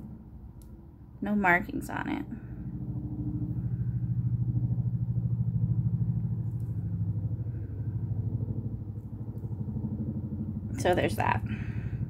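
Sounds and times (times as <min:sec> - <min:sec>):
low pulsing mechanical hum: 0:00.0 - 0:12.0.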